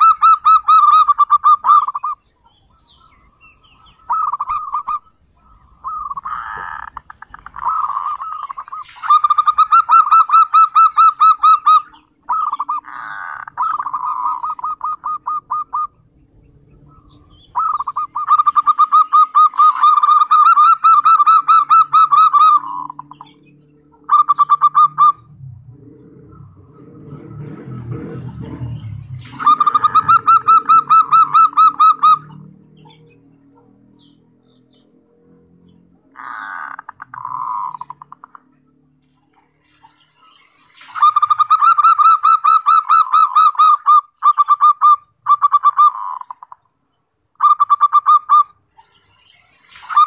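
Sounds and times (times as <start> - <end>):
dove rattling call: 0.0 - 35.0, 35.6 - 38.6, 39.2 - 50.0.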